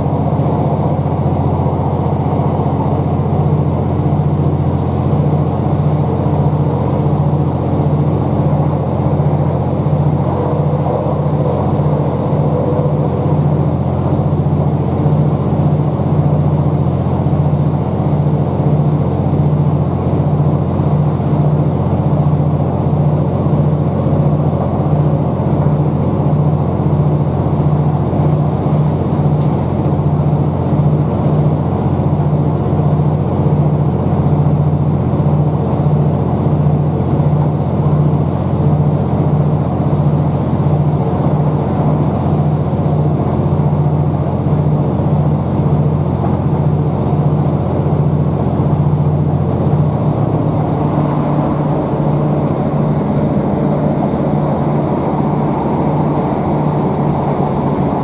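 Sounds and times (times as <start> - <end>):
diesel engine droning: 0.0 - 58.0
train rolling noise: 0.0 - 58.0.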